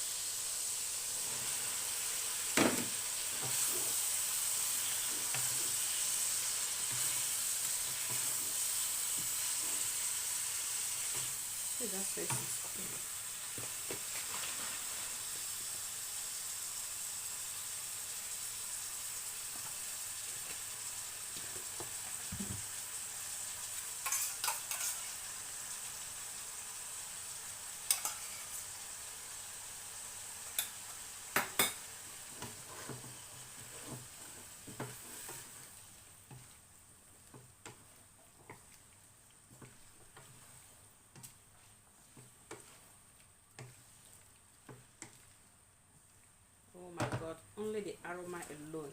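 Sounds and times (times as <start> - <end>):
food sizzling in oil: 0.0 - 48.9.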